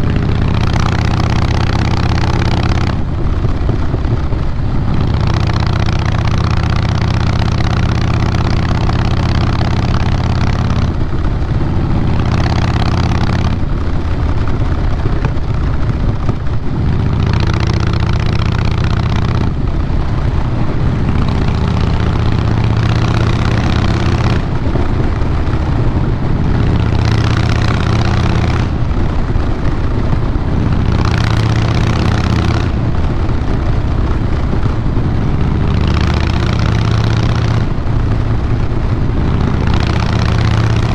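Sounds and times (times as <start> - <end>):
motorcycle exhaust revving: 0.0 - 40.9.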